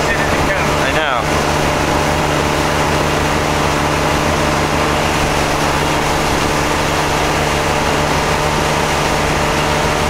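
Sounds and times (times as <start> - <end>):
motorboat engine running: 0.0 - 10.0
water rushing: 0.0 - 10.0.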